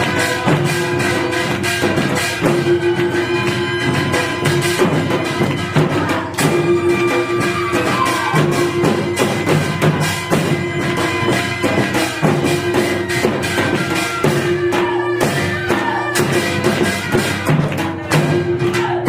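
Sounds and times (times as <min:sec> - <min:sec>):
sliding melody line: 0:00.0 - 0:17.6
drum strikes in driving rhythm: 0:00.0 - 0:19.0.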